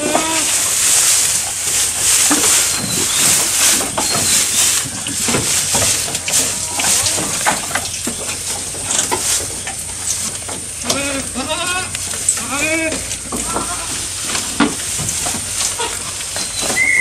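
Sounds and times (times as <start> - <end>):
goats chewing grass: 0.0 - 17.0
leaves and stems rustling: 0.0 - 17.0.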